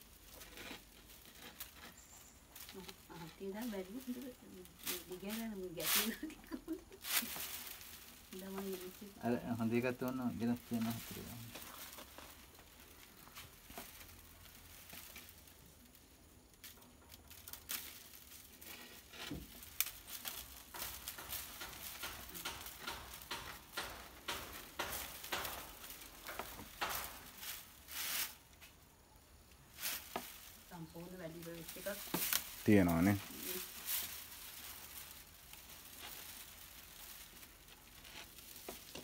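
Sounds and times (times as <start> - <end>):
dry leaf ribs rustling and crackling: 0.0 - 39.0.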